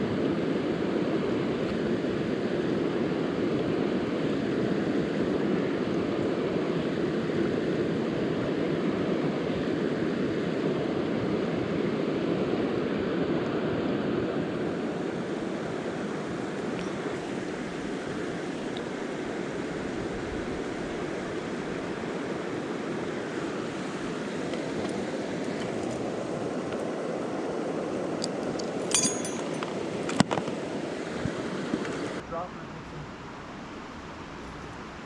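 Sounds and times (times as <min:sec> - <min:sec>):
rushing mountain river: 0:00.0 - 0:35.0.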